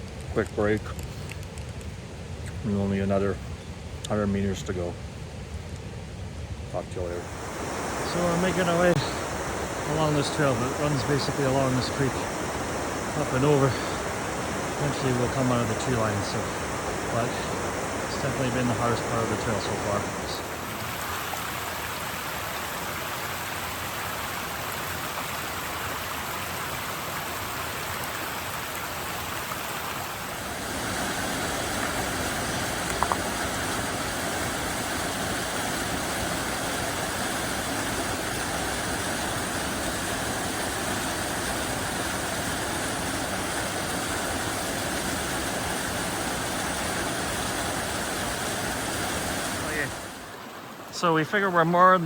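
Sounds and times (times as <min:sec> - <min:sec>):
mountain creek rushing: 0:06.8 - 0:52.0.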